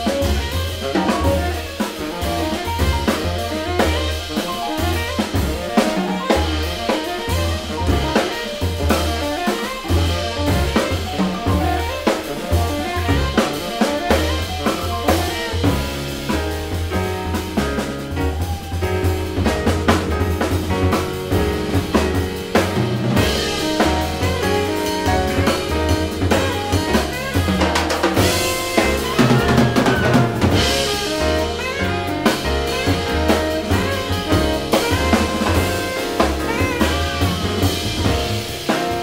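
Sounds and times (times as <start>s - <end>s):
plucked double bass: 0.0s - 18.3s, 19.1s - 39.0s
drum kit: 0.0s - 39.0s
piano: 0.0s - 39.0s
tenor saxophone: 0.0s - 39.0s.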